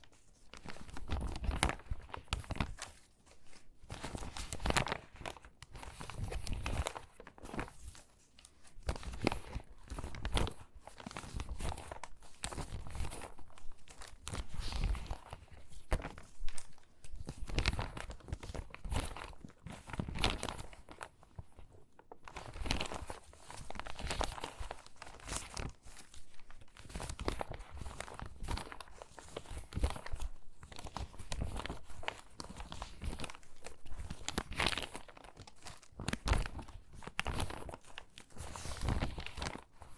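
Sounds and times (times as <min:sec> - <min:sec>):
magazine pages rustling and crackling: 0:00.0 - 0:39.9.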